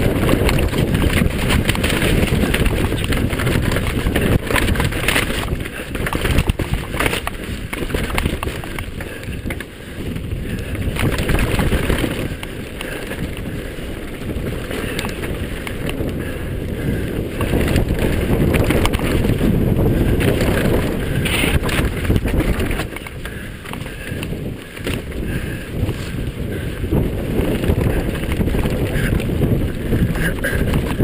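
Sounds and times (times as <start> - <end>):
bike rattling: 0.0 - 31.0
wind buffeting microphone: 0.0 - 31.0.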